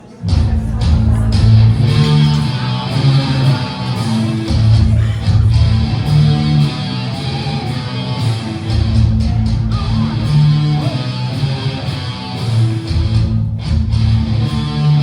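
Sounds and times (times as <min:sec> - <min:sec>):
strummed guitar chords: 0:00.1 - 0:15.0.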